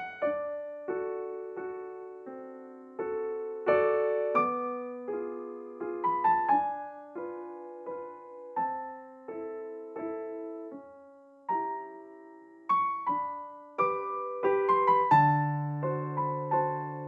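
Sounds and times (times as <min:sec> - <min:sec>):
soft solo piano: 0:00.0 - 0:17.0.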